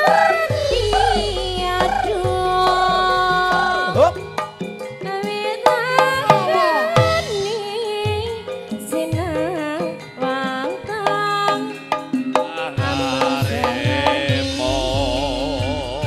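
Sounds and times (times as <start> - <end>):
woman singing: 0.0 - 4.0, 5.0 - 12.0, 12.8 - 15.8
metallophones and gongs: 0.0 - 16.0.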